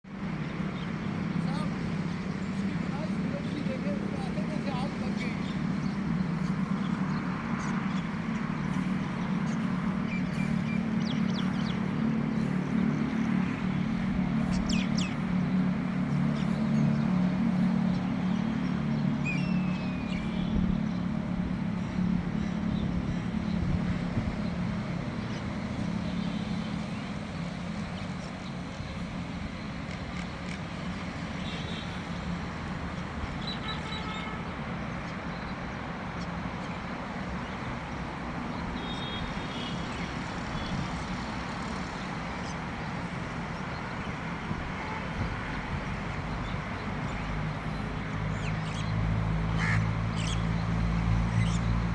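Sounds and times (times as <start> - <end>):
low engine-like hum: 0.1 - 51.9.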